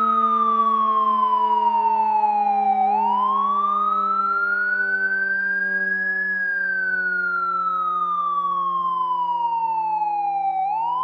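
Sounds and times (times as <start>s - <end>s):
fire truck siren wailing: 0.0s - 11.0s.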